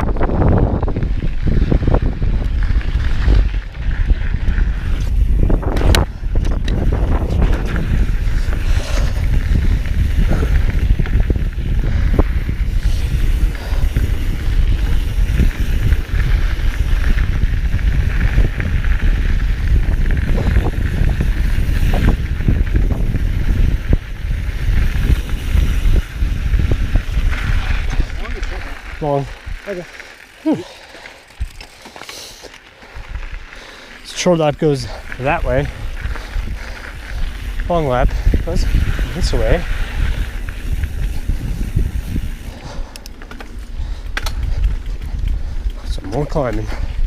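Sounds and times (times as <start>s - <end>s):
wind buffeting microphone: 0.0s - 31.8s, 32.7s - 47.0s.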